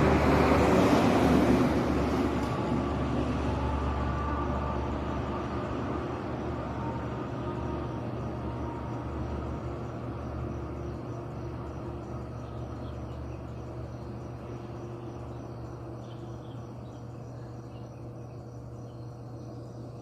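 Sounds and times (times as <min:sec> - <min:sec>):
low mechanical hum: 0:00.0 - 0:20.0
faint insect or bird chirps: 0:02.9 - 0:20.0.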